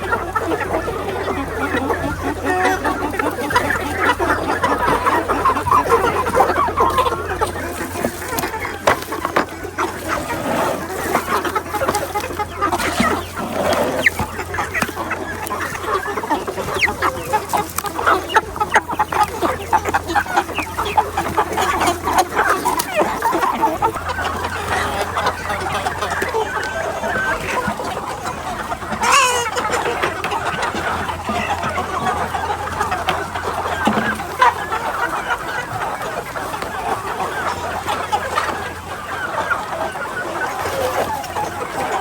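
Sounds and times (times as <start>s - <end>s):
chicken drawn-out call: 0.0s - 42.0s
chickens clucking: 0.0s - 42.0s.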